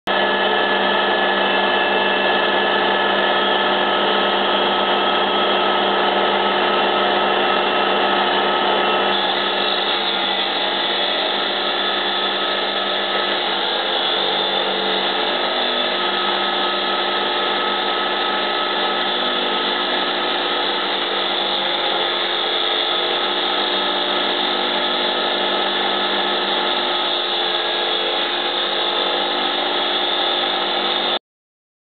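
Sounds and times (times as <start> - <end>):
concrete saw cutting concrete: 0.1 - 31.2.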